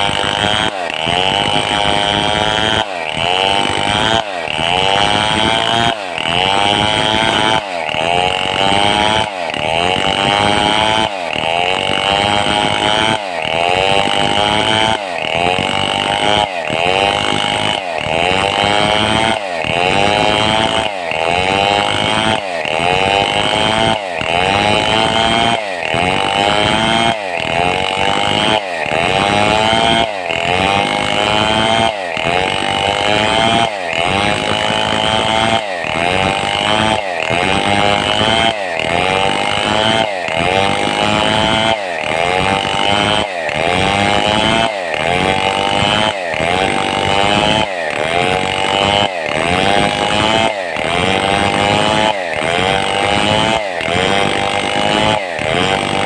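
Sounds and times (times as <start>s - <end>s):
chainsaw sawing a log: 0.0s - 56.0s.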